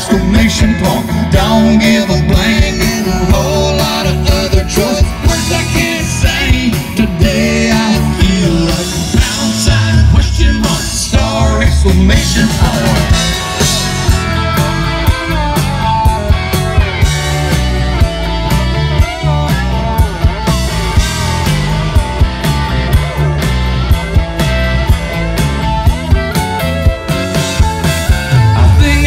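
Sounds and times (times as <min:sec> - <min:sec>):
country-rock band playing: 0:00.0 - 0:29.0
electric guitar lead lines: 0:00.0 - 0:29.0.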